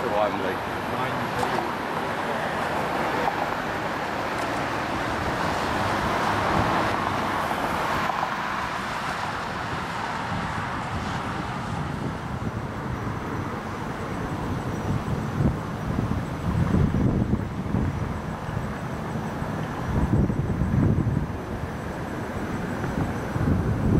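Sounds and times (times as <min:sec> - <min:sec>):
vehicle engine and tyre noise: 0:00.0 - 0:23.9.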